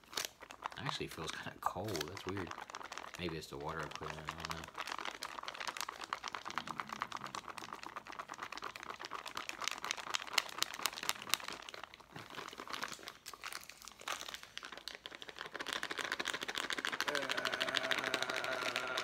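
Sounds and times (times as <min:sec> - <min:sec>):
plastic pouch crinkling: 0:00.0 - 0:19.0.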